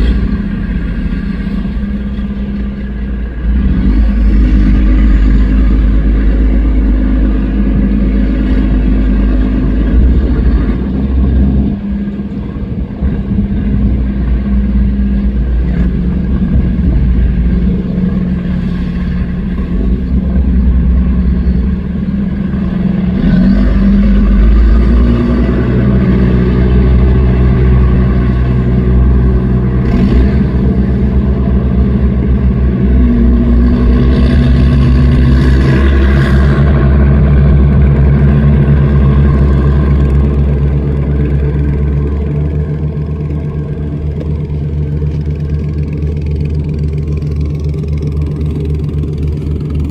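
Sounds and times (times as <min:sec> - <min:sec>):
boat engines droning: 0:00.0 - 0:49.9.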